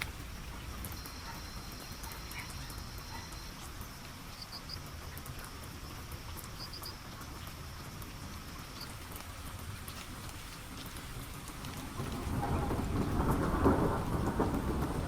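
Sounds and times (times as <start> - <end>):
thin insect whine: 0.0 - 14.6
fine ticks: 0.0 - 14.8.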